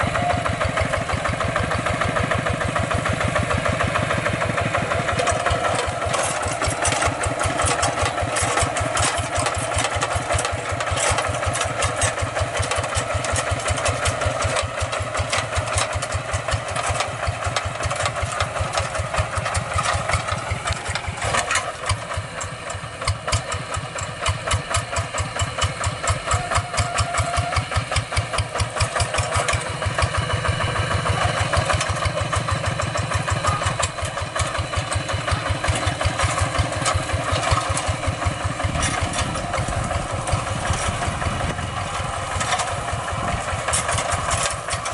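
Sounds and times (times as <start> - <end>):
diesel tractor engine running: 0.0 - 44.9.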